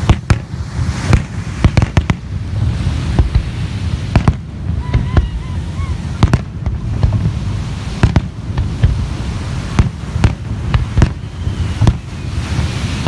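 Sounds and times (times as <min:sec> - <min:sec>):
firework shells bursting: 0:00.0 - 0:05.3, 0:06.1 - 0:13.0.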